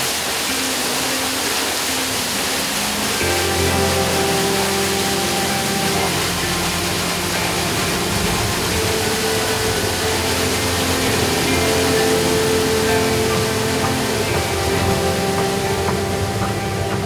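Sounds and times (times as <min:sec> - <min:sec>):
water splashing onto mill wheel: 0:00.0 - 0:17.0
held tones: 0:00.8 - 0:17.0.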